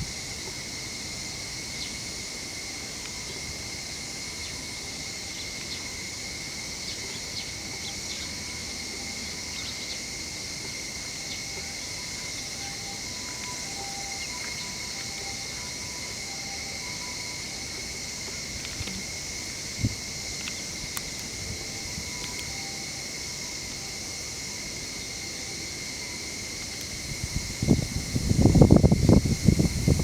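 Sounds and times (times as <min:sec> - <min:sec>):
faint insect chirps: 0:00.0 - 0:30.0
high insect hiss: 0:00.0 - 0:30.0
insect drone: 0:00.0 - 0:30.0.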